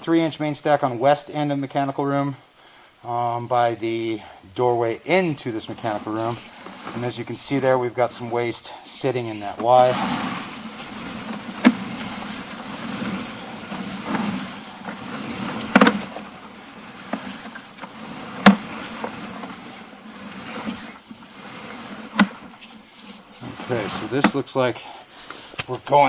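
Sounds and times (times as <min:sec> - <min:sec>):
cable rustling through drain pipe: 0:05.1 - 0:26.0.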